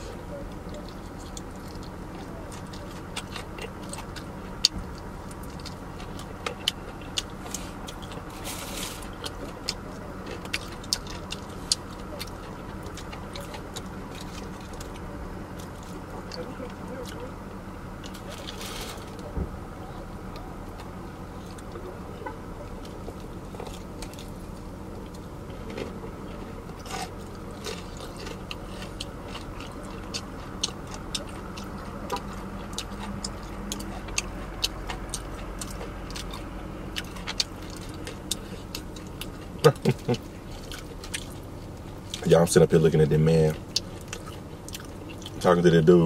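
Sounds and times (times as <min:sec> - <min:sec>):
chewing crispy fried chicken: 0:00.0 - 0:46.0
steady low hum: 0:00.0 - 0:46.0.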